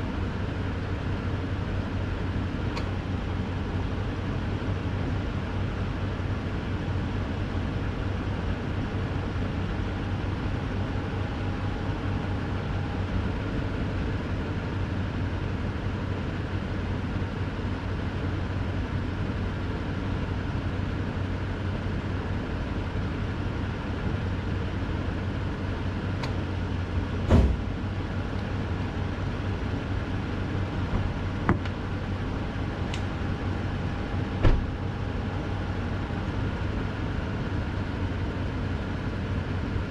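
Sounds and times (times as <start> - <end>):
truck engine low drone: 0.0 - 39.9.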